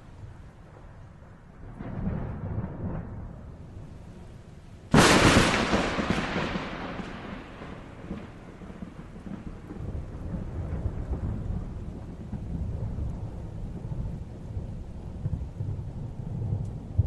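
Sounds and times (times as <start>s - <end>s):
rain hiss: 0.0s - 17.0s
thunder rumbling: 0.0s - 17.0s.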